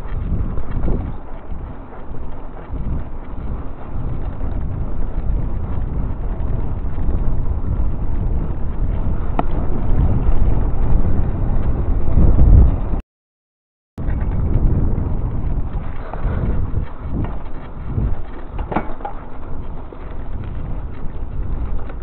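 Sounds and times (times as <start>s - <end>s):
bike tyres rolling over bricks: 0.0s - 13.0s, 14.0s - 22.0s
wind buffeting microphone: 0.0s - 13.0s, 14.0s - 22.0s.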